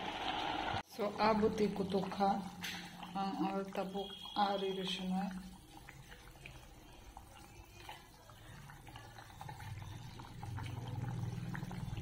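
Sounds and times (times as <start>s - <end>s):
liquid bubbling in a pot: 0.0s - 12.0s.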